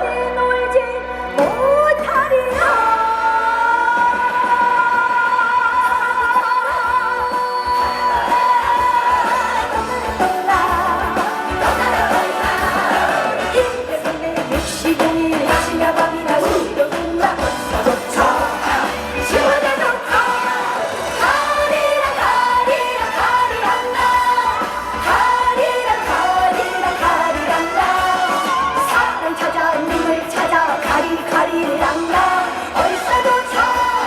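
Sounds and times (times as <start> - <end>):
backing music: 0.0 - 34.0
woman singing: 0.0 - 34.0.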